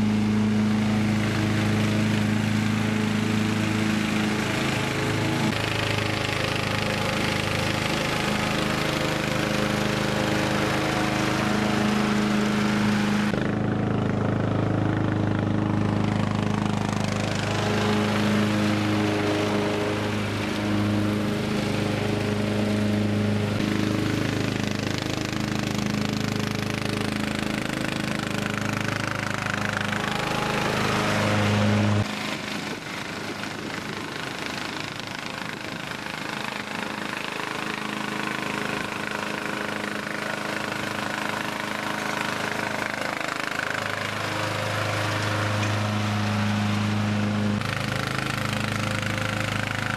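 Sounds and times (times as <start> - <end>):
lawn tractor engine mowing: 0.0 - 49.9.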